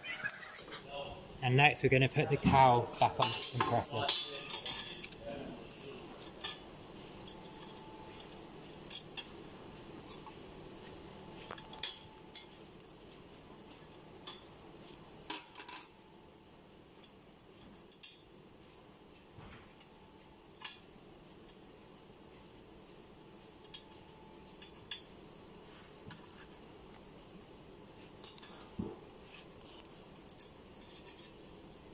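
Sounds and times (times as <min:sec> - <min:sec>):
faint room hum: 0:00.0 - 0:31.9.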